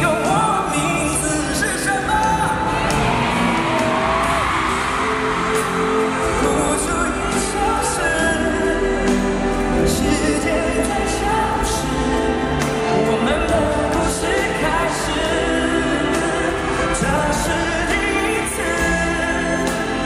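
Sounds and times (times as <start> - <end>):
man singing into microphone: 0.0 - 3.2, 5.4 - 20.0
backing band playing: 0.0 - 20.0.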